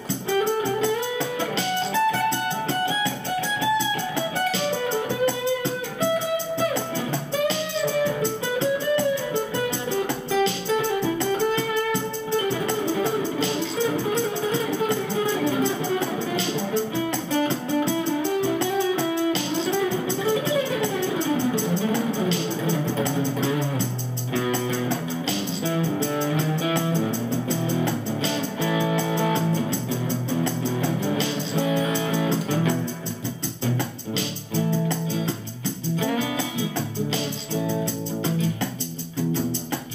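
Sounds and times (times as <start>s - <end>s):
overdriven guitar melody: 0.0s - 39.9s.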